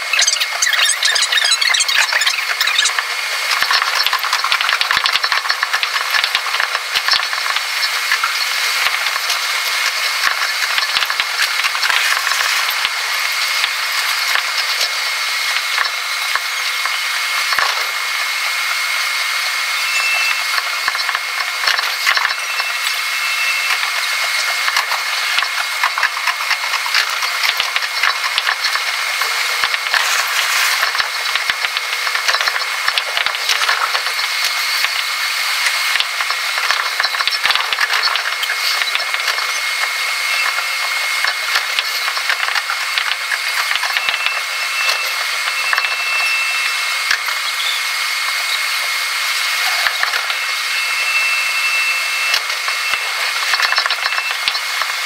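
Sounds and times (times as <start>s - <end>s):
sped-up electric train clattering: 0.0s - 55.0s.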